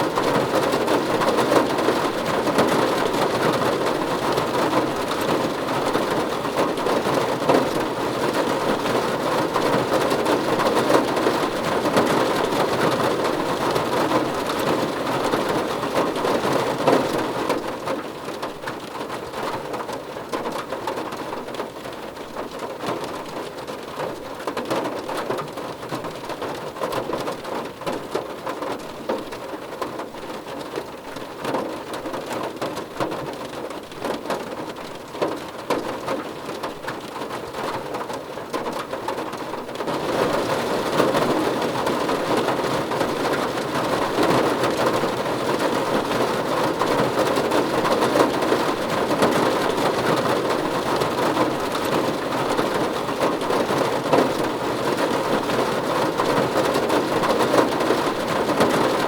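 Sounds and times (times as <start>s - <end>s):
rain on a car roof: 0.0s - 59.0s.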